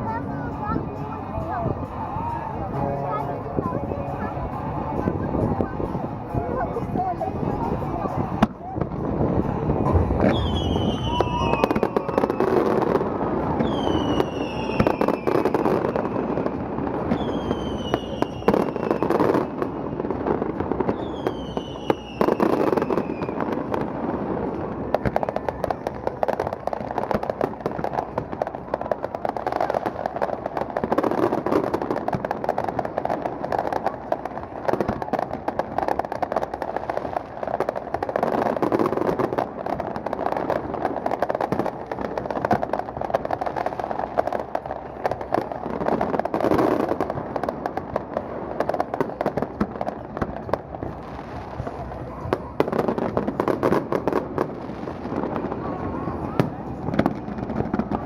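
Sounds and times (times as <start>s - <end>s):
fireworks crackling: 0.0s - 58.0s
fireworks whistling: 0.0s - 58.0s.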